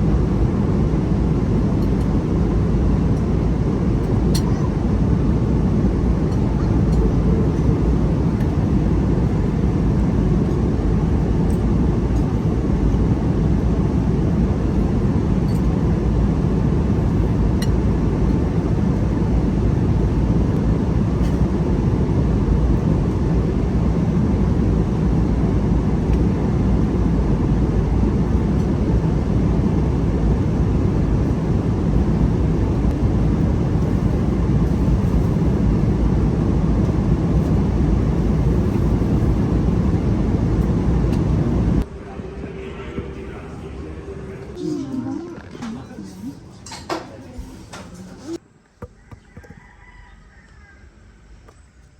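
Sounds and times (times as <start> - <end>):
airliner cabin rumble: 0.0 - 48.4.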